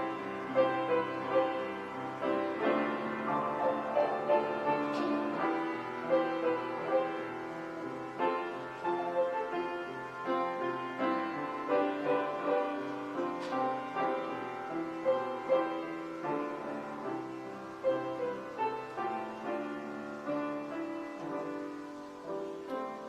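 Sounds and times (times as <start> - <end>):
slow piano piece: 0.0 - 23.0.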